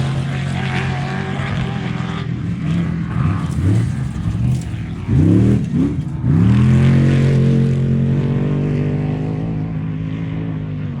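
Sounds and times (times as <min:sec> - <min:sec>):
truck engine revving: 0:00.0 - 0:09.4.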